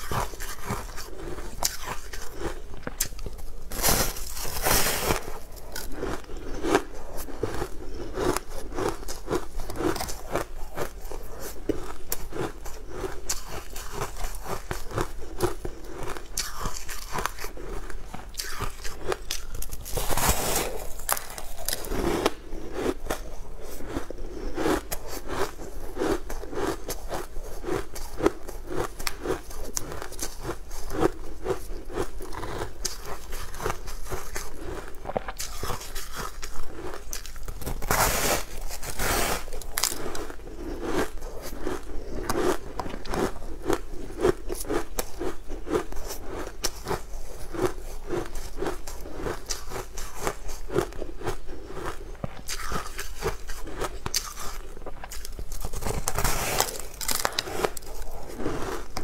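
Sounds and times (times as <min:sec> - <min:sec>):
crunchy biting and chewing: 0:00.0 - 0:59.0.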